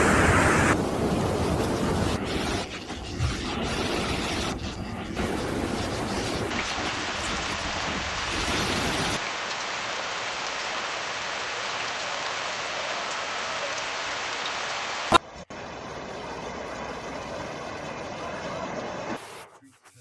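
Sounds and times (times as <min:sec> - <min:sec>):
heavy rain falling: 0:00.0 - 0:19.4.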